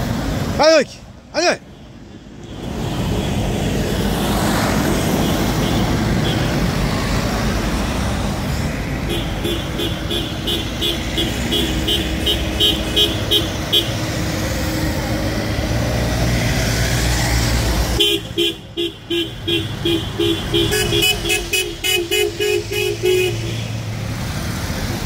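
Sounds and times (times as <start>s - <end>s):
car and road rumble: 0.0s - 25.0s.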